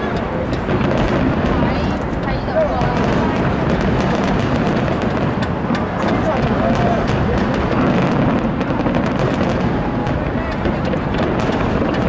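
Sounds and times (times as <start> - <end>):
fireworks booming and cracking: 0.0 - 12.0.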